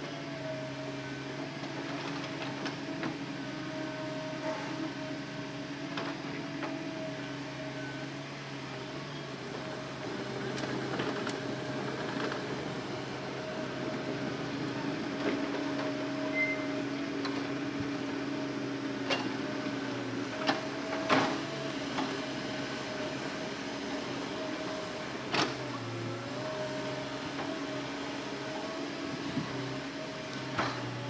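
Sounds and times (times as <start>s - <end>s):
excavator engine and hydraulics: 0.0s - 31.0s.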